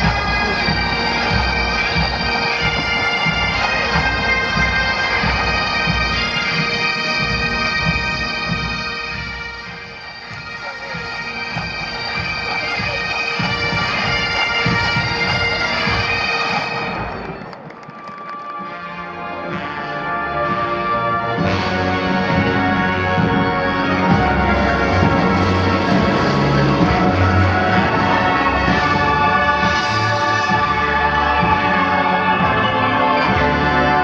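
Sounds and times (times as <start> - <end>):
bagpipes playing a march: 0.0 - 34.0.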